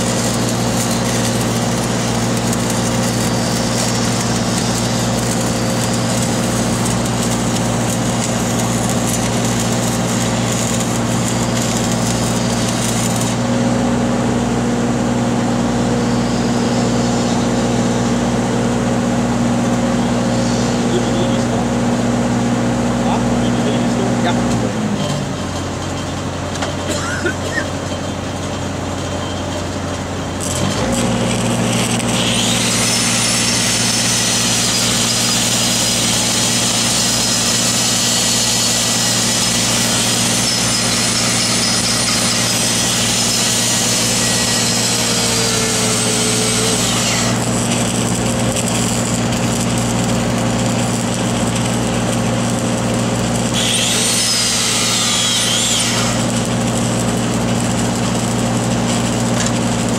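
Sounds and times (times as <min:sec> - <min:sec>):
welding machine engine running: 0:00.0 - 0:59.9.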